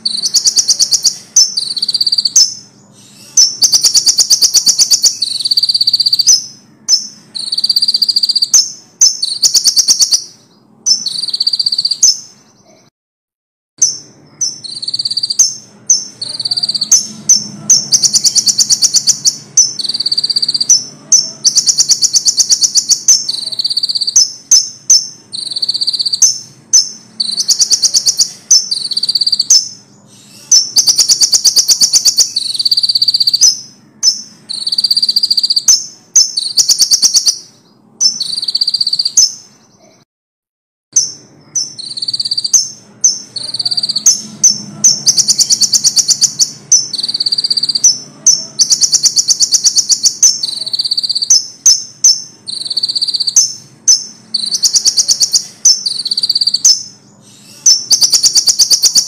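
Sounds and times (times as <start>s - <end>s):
bird singing fast trilled phrases: 0.0s - 12.7s, 13.8s - 39.9s, 40.9s - 59.0s.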